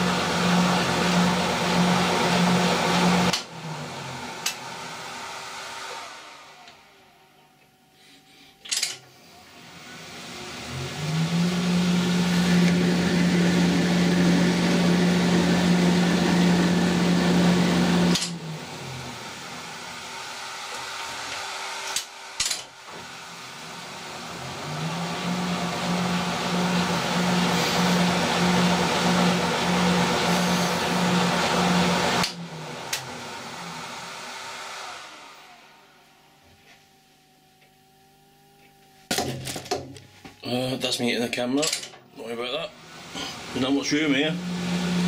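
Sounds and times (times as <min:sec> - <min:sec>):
lathe motor whine: 0:00.0 - 0:41.5, 0:42.2 - 0:45.0.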